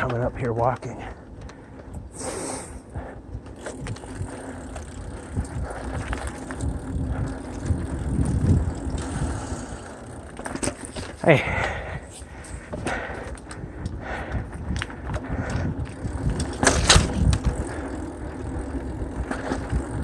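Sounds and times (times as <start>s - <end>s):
bike rattling and knocking: 0.0s - 2.1s, 2.9s - 20.0s
bike tyres rumbling on dirt: 0.0s - 20.0s.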